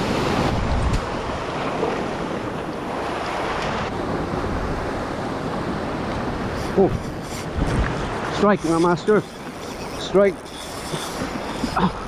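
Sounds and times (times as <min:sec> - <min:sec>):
sea waves washing over rocks: 0:00.0 - 0:12.0
wind buffeting microphone: 0:00.0 - 0:12.0.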